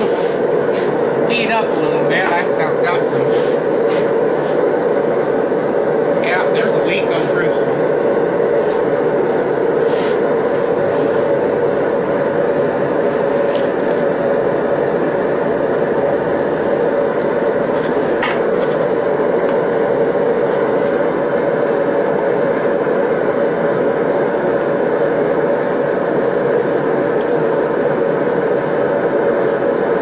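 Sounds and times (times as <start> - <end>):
torch flame rushing: 0.0 - 30.0.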